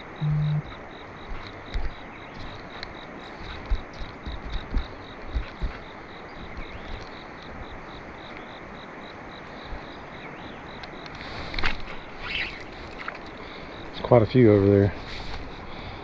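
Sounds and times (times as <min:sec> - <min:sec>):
insect chirping: 0:00.0 - 0:16.0
outdoor hiss: 0:00.0 - 0:16.0
rustle: 0:00.0 - 0:16.0.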